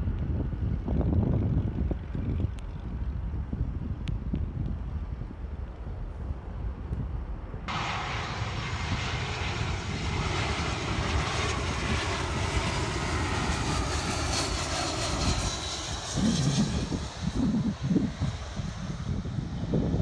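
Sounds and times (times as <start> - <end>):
jet engines passing overhead: 0.0 - 20.0
wind buffeting microphone: 0.0 - 20.0.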